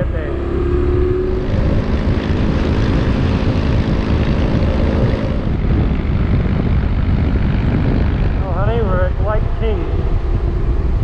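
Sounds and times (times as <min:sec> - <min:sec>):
motorcycle engine drone: 0:00.0 - 0:11.0
wind rush on microphone: 0:00.0 - 0:11.0.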